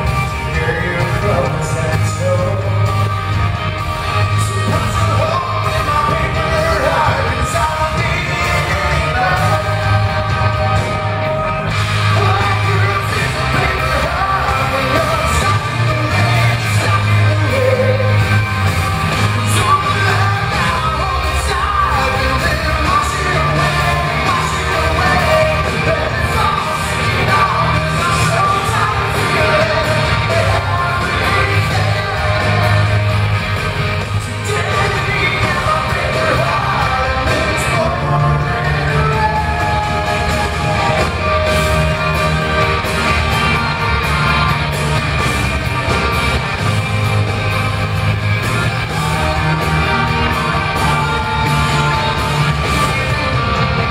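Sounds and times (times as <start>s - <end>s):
person singing: 0.0s - 3.3s, 4.0s - 45.0s
drums: 0.0s - 53.9s
electric guitar: 0.0s - 53.9s.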